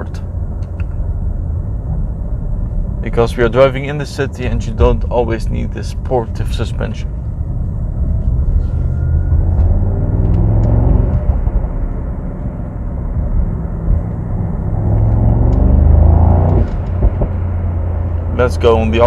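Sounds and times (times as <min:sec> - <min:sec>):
car engine rumbling and accelerating: 0:00.0 - 0:19.0.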